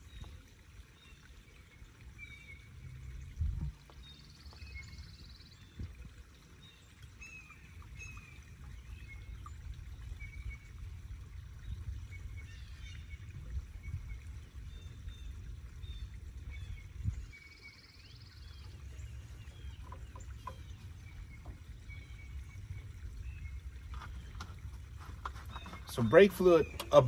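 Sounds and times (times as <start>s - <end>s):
fluid trickling into reservoir: 0.0s - 27.0s.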